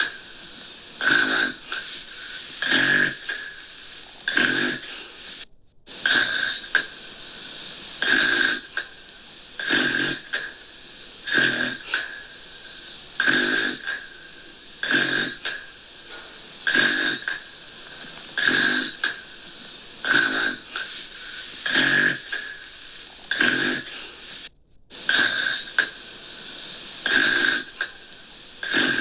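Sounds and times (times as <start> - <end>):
person snoring: 0.0 - 29.0.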